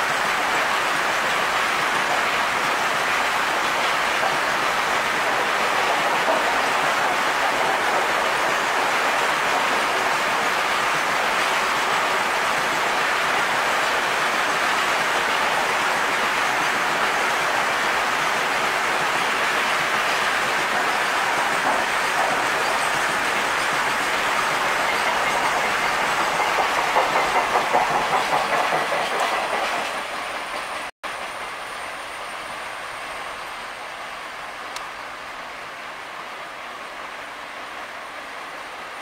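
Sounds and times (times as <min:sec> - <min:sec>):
freight train wheels on rail: 0:00.0 - 0:39.0.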